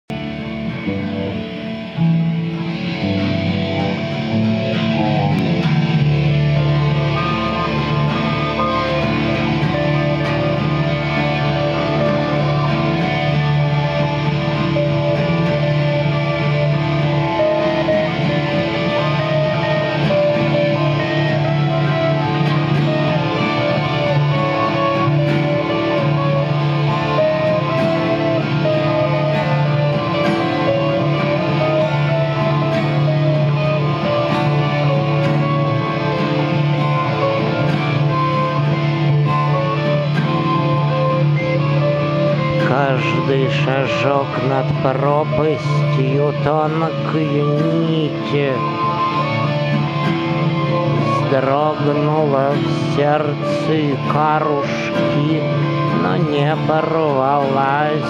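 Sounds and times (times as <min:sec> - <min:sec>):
electric guitar: 0:00.0 - 0:58.0
acoustic guitar strumming: 0:00.1 - 0:58.0.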